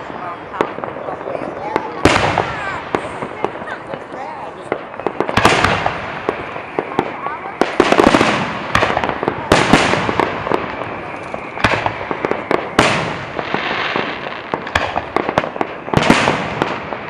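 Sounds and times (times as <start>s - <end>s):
fireworks banging: 0.0s - 17.0s
fireworks hissing crackle: 0.0s - 17.0s.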